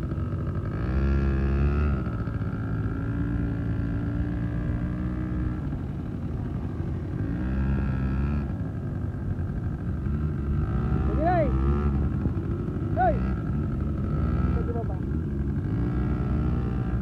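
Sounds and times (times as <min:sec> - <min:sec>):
quad bike engines running: 0:00.0 - 0:17.0.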